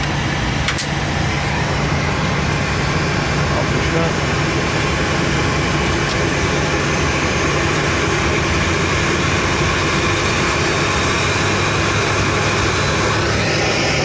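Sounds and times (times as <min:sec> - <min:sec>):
jet engines spooling up: 0:00.0 - 0:14.0.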